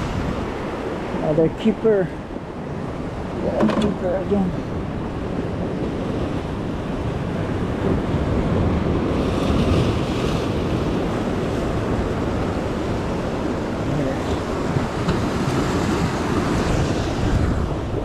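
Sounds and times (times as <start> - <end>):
ocean surf washing: 0.0 - 18.0
wind buffeting microphone: 0.0 - 18.0.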